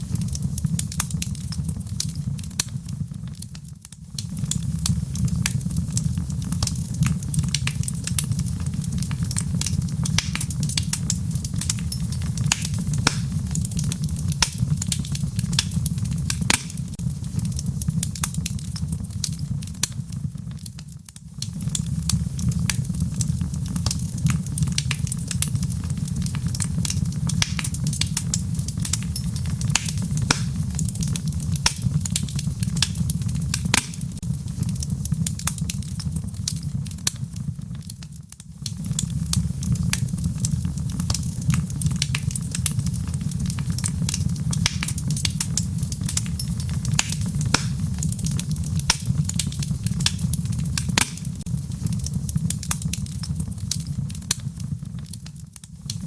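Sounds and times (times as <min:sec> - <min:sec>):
fire low rumble: 0:00.0 - 0:56.0
wood fire crackling and popping: 0:00.0 - 0:56.0.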